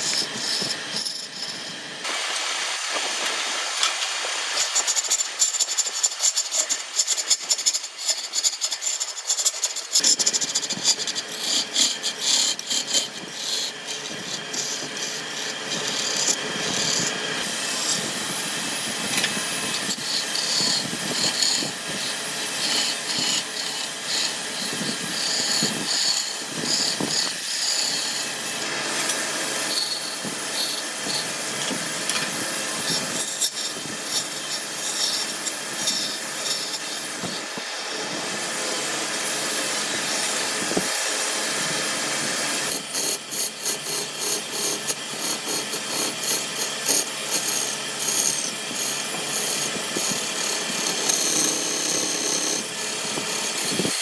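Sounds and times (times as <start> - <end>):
power tool rasping wood: 0.0 - 54.0.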